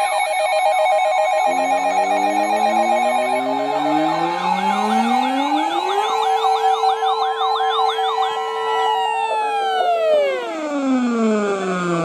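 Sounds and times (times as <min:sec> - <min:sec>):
fast warbling siren: 0:00.0 - 0:12.0
steady siren tone: 0:00.0 - 0:12.0
rising siren wail: 0:01.2 - 0:12.0.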